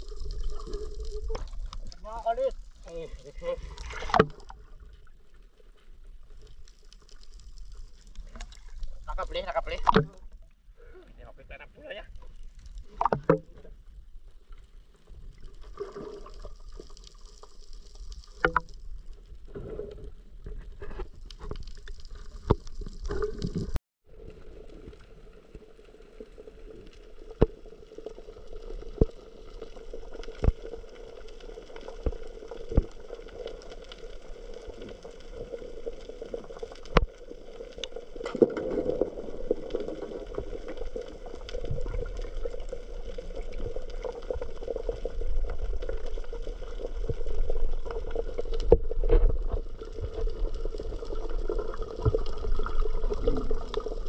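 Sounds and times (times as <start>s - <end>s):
water sloshing and gurgling: 0.0s - 11.2s, 12.0s - 54.0s.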